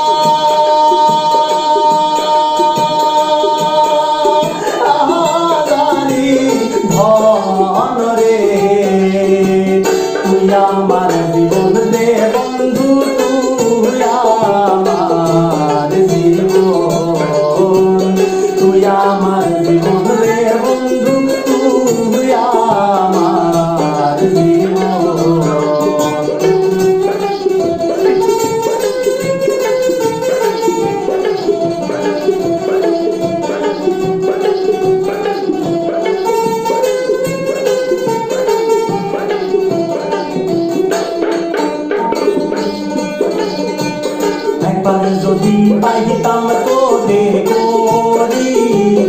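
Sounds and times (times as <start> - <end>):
mandolin folk melody: 0.0 - 49.0.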